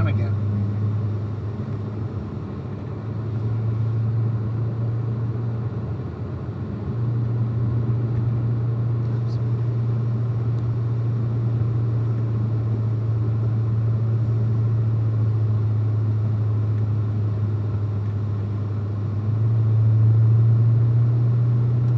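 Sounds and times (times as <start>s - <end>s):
car engine drone in cabin: 0.0s - 21.9s
road noise: 0.0s - 21.9s.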